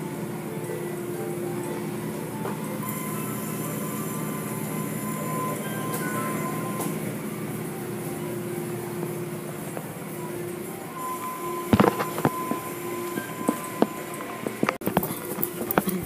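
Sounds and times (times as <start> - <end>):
car wash machinery running: 0.0 - 16.0.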